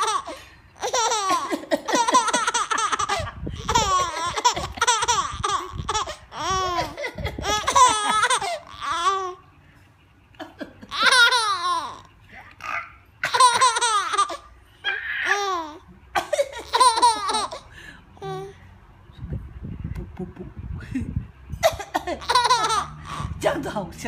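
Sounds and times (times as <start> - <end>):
baby laughing: 0.0 - 9.4, 10.4 - 18.5, 21.6 - 23.4.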